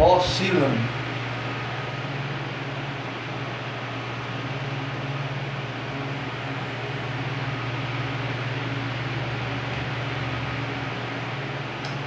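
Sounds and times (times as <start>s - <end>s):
electric fan blowing air: 0.0s - 12.0s
low motor hum: 0.0s - 12.0s.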